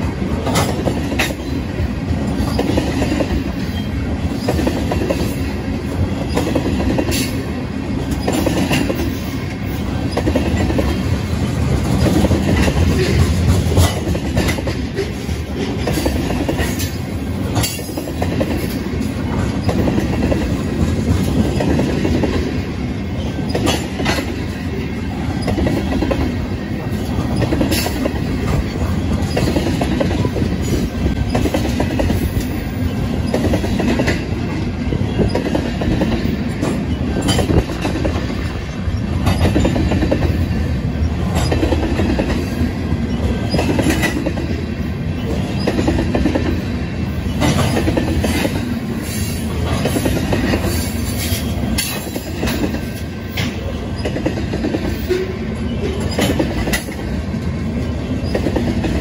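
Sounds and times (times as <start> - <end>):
steel wheels rumbling on rails: 0.0 - 59.0
wheels clanking over rail joints: 0.0 - 59.0.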